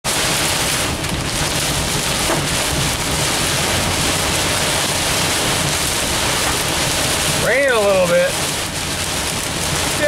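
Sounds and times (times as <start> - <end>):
heavy rain drumming on car: 0.0 - 10.0.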